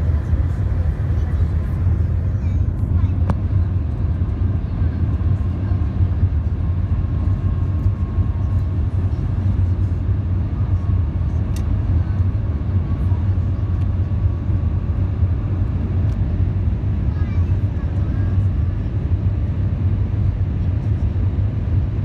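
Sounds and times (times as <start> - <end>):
train cabin low rumble: 0.0 - 22.0.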